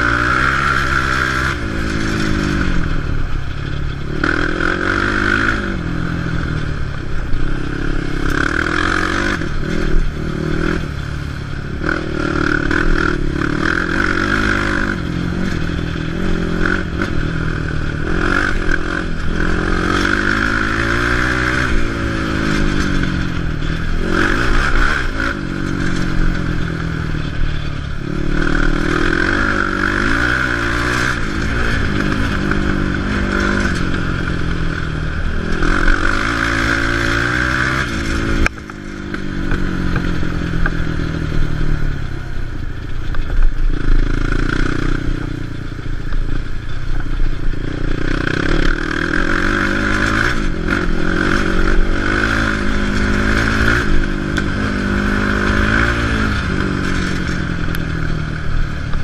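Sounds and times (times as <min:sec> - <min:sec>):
quad engine revving: 0:00.0 - 0:03.0, 0:04.0 - 0:06.7, 0:07.4 - 0:10.9, 0:11.6 - 0:41.9, 0:47.6 - 0:59.0.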